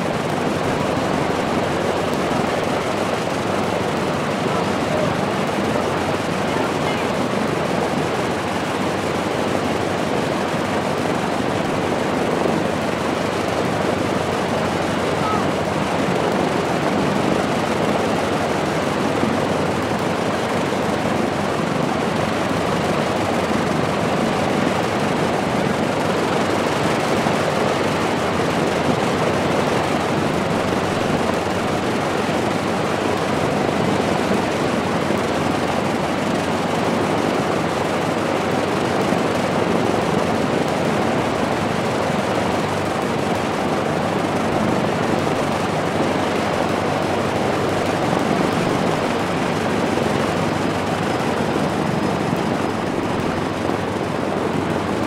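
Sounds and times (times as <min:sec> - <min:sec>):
twin propeller aircraft engines running: 0:00.0 - 0:55.0.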